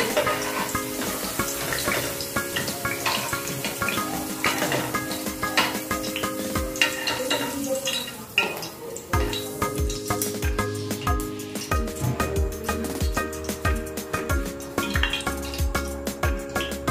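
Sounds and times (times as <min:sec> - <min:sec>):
background music with held chords: 0:00.0 - 0:07.1, 0:09.2 - 0:16.9
hot oil sizzling: 0:00.0 - 0:16.9.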